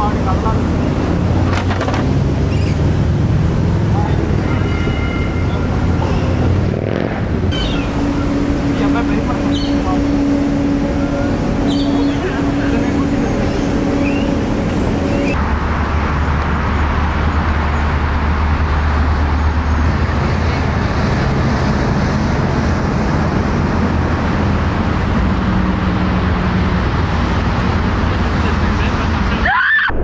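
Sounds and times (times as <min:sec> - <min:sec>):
city traffic rumble: 0:00.0 - 0:30.0.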